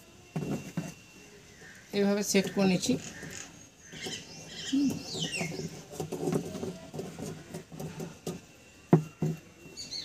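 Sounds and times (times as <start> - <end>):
fibre rustling against wire: 0.0 - 10.0.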